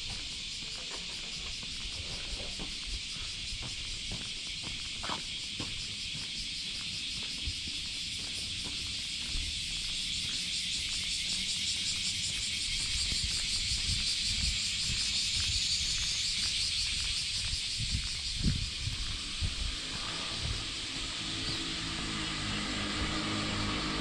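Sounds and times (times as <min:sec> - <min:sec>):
cicadas singing: 0:00.0 - 0:24.0.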